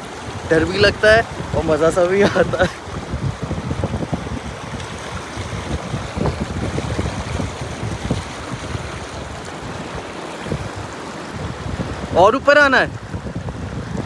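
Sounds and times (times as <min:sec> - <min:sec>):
stream rushing over rocks: 0:00.0 - 0:14.0
wind buffeting on microphone: 0:00.0 - 0:14.0.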